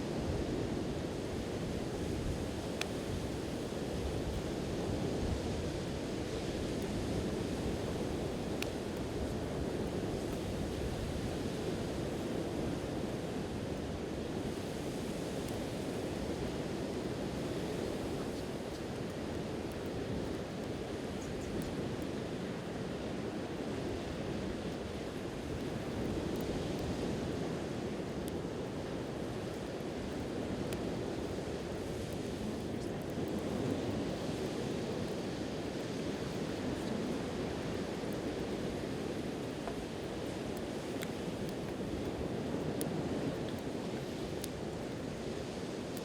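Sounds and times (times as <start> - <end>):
campfire crackles: 0.0 - 46.0
wind: 0.0 - 46.0.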